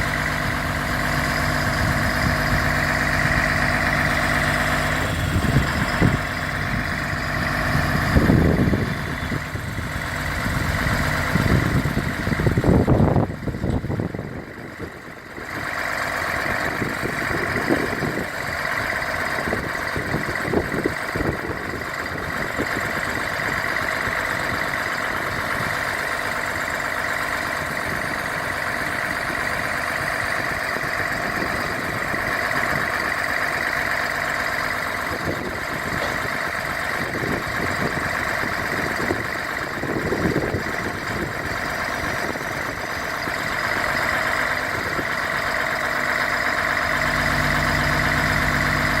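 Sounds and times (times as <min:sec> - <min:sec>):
diesel truck engine idling: 0:00.0 - 0:49.0.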